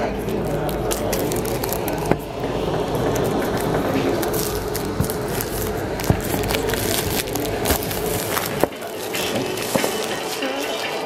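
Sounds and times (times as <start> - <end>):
plastic packaging crinkling: 0.0 - 11.0
steady low hum: 0.0 - 11.0.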